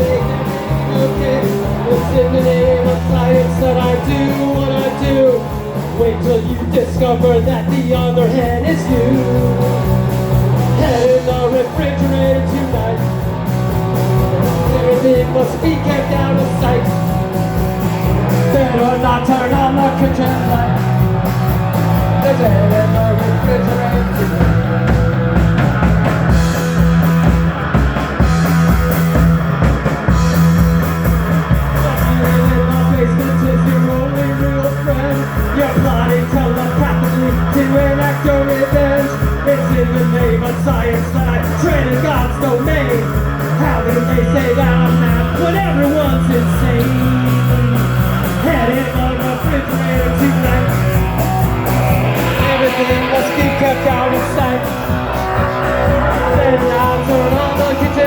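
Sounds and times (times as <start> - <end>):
bass line: 0.0 - 58.0
rock band playing: 0.0 - 58.0
steady drum beat: 0.0 - 58.0.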